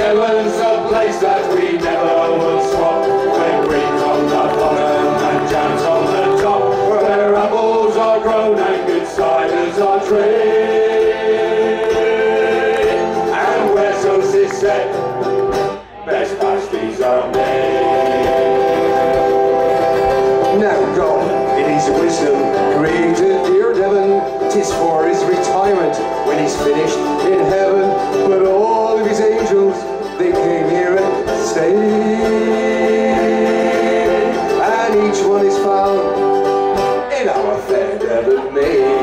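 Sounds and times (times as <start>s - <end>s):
men singing in harmony: 0.0s - 15.4s, 16.0s - 36.4s, 37.1s - 39.0s
strummed ukuleles: 0.0s - 39.0s.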